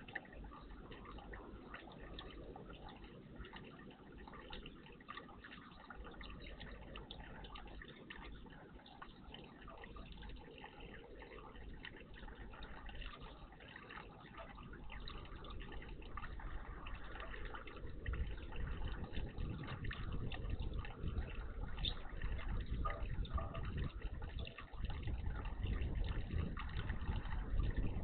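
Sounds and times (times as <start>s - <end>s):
water splashing in bird bath: 0.0s - 28.0s.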